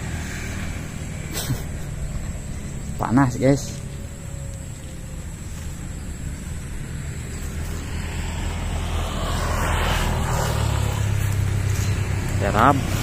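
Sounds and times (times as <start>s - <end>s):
car engine hum: 0.0s - 13.0s
tyre noise on road: 0.0s - 13.0s.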